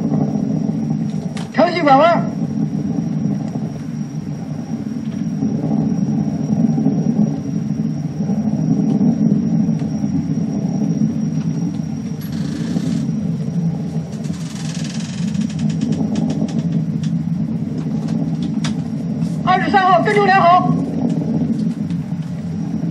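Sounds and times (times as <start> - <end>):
rocket launch rumble: 0.0 - 22.9.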